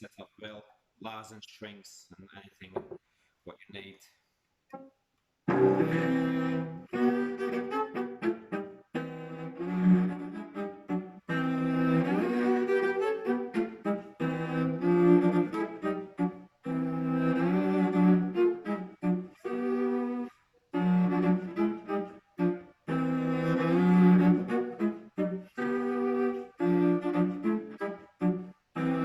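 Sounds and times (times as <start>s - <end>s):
bowed cello melody: 5.5s - 29.0s.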